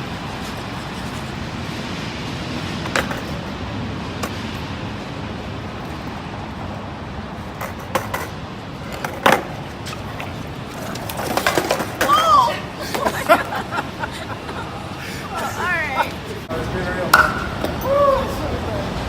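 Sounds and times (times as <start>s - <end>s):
steady vehicle noise: 0.0s - 19.0s.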